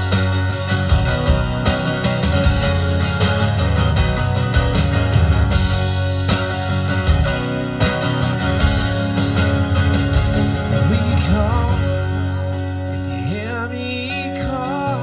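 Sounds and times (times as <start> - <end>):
drums: 0.0 - 13.6
bass guitar: 0.0 - 15.0
electric guitar: 0.0 - 15.0.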